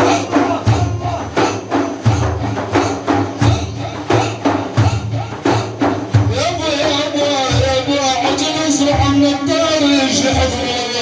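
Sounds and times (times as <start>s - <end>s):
frame drums with jingles: 0.0s - 11.0s.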